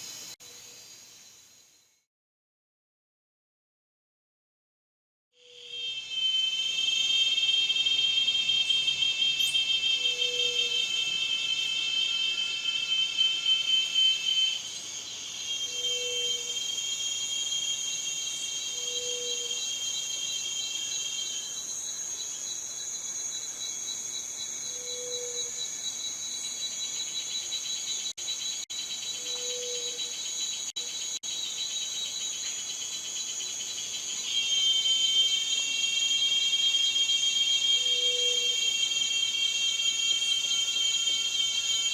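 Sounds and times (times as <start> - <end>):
cicadas buzzing: 0.0 - 1.9, 5.4 - 41.9.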